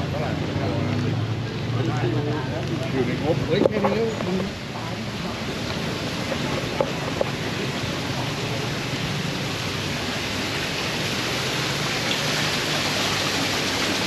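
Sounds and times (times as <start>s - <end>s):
rushing water hiss: 0.1s - 14.0s.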